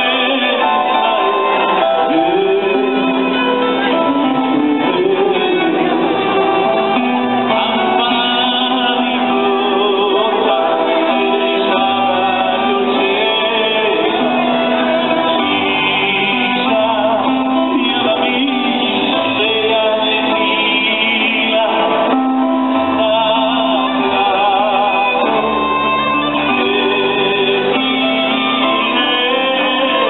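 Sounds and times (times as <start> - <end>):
live band music: 0.0 - 30.0
man singing into microphone: 0.0 - 30.0.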